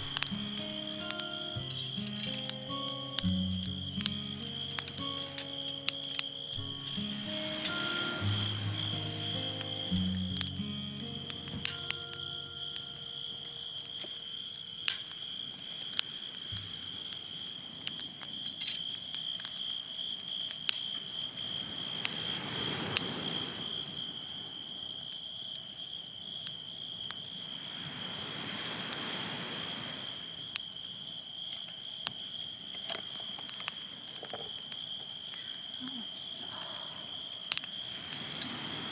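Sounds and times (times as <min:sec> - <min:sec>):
insects trilling: 0:00.0 - 0:38.9
sharp crackles: 0:00.0 - 0:38.9.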